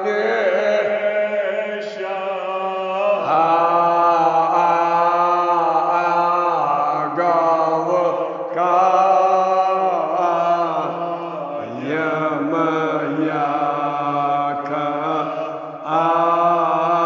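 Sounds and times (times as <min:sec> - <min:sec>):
man chanting elegy: 0:00.0 - 0:17.0.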